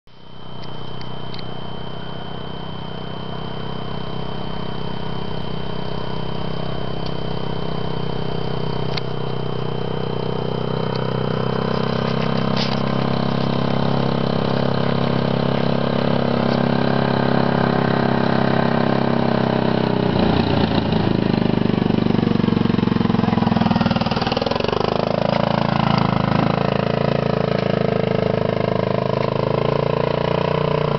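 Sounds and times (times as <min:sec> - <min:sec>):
quad bike engine running: 0:00.1 - 0:30.9.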